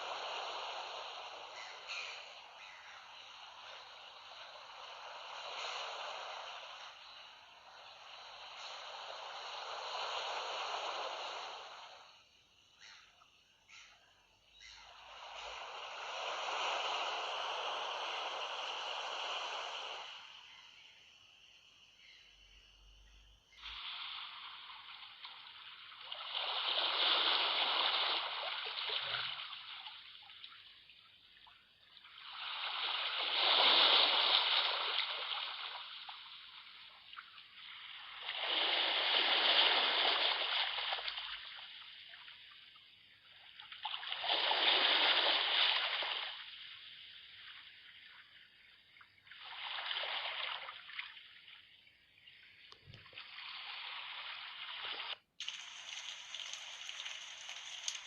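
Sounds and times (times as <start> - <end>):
sea waves washing onto shore: 0.0 - 12.3, 14.9 - 21.4, 23.6 - 42.6, 43.3 - 48.2, 53.1 - 58.0.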